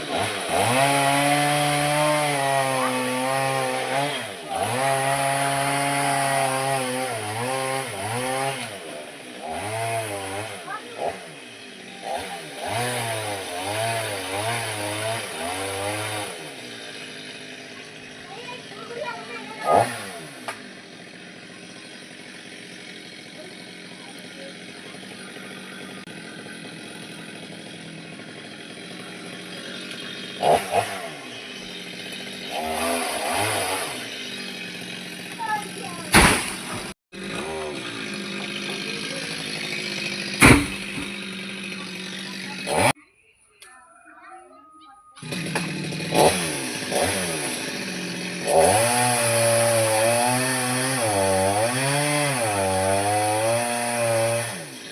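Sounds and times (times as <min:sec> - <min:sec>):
chainsaw cutting: 0:00.0 - 0:43.0, 0:45.2 - 0:54.9.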